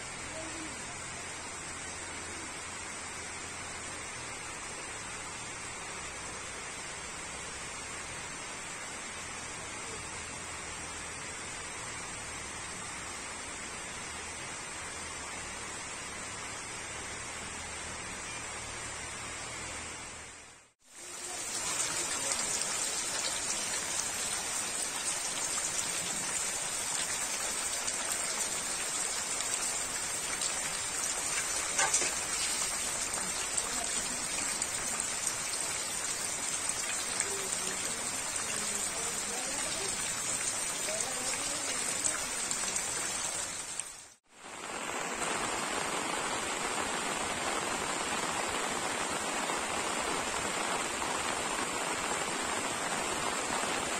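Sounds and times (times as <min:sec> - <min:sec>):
heavy rain on foliage: 0:00.0 - 0:53.9.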